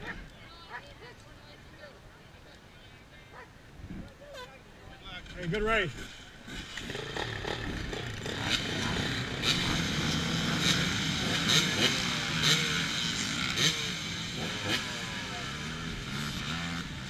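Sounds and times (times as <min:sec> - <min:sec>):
dirt bike engines revving: 0:02.8 - 0:17.0.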